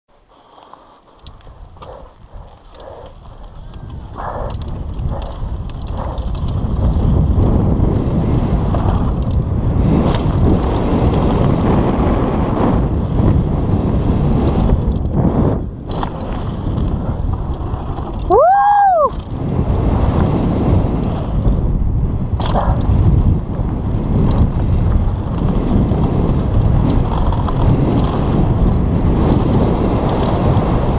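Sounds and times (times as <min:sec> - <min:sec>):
bike clicks and rattles: 0:00.1 - 0:30.9
wind buffeting microphone: 0:01.2 - 0:30.9.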